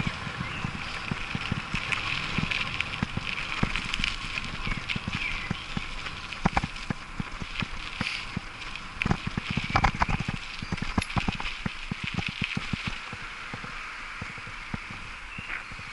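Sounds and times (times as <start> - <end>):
bicycle rattling over gravel: 0.0 - 15.9
tyre and wind hiss: 0.0 - 15.9.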